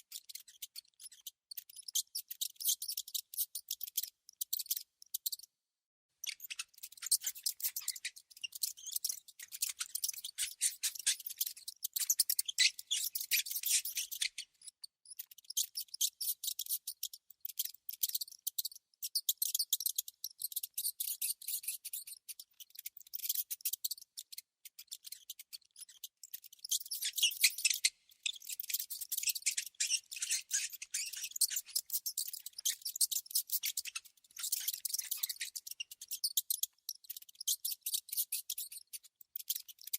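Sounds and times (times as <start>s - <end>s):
rodent clicks and squeaks: 0.0s - 5.5s, 6.2s - 39.9s.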